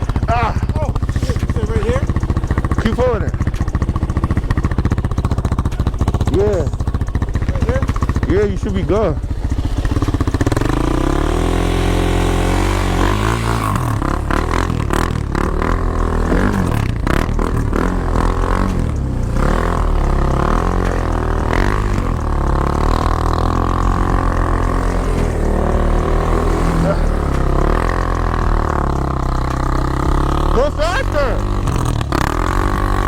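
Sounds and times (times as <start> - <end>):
atv engine revving: 0.0 - 33.0.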